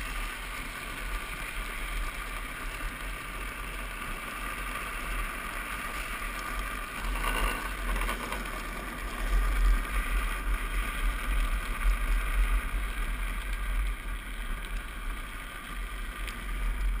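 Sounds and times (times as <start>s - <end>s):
wheels rumbling on asphalt: 0.0s - 17.0s.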